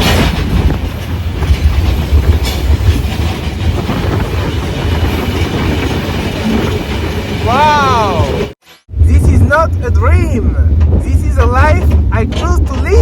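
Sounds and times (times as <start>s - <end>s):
train wagons rumbling on rails: 0.0s - 13.0s.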